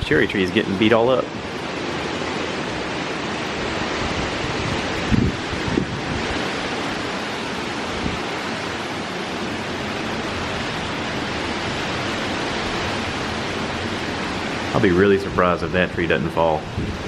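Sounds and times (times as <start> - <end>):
heavy rain: 0.0 - 17.0
strong wind: 0.0 - 17.0
wind gusts thumping on microphone: 0.0 - 17.0.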